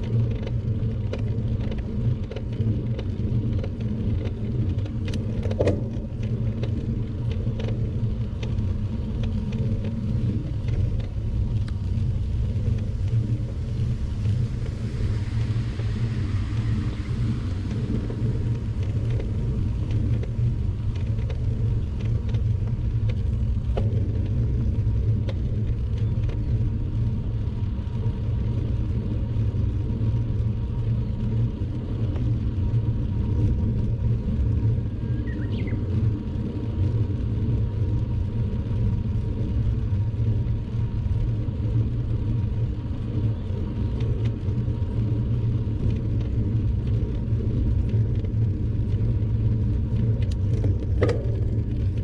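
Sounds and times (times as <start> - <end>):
bicycle road noise: 0.0 - 52.0
wind buffeting microphone: 0.0 - 52.0.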